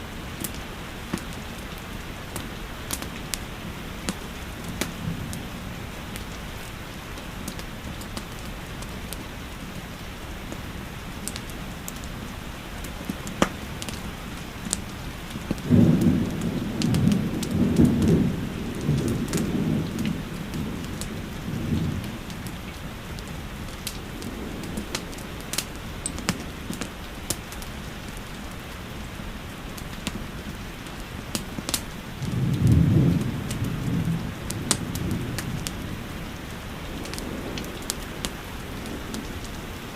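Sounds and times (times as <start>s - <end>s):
thunder rumbling: 0.0s - 9.8s, 13.1s - 28.6s, 31.2s - 39.9s
steady rain: 0.0s - 39.9s
wood fire crackling: 0.0s - 39.9s.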